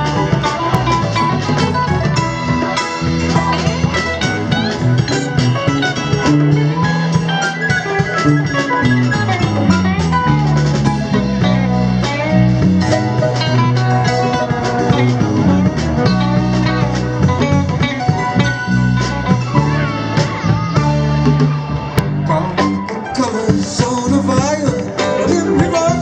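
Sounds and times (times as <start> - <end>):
bass guitar: 0.0 - 26.0
drum kit: 0.0 - 26.0
electric guitars: 0.0 - 26.0
keyboard: 0.0 - 26.0.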